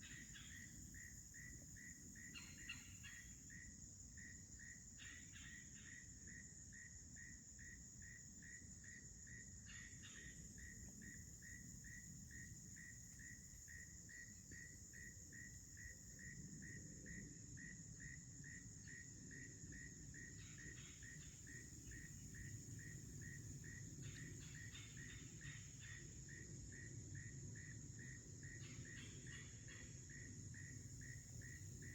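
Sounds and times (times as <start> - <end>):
insect chirping: 0.0 - 31.9
insect high-pitched drone: 0.0 - 31.9.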